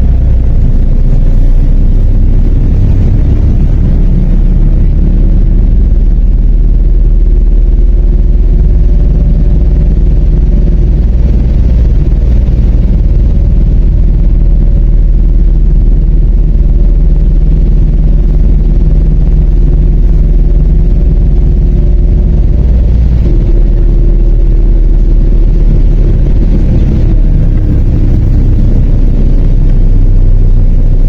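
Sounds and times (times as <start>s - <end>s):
bus engine drone: 0.0s - 31.0s
loud low rumble: 0.0s - 31.0s.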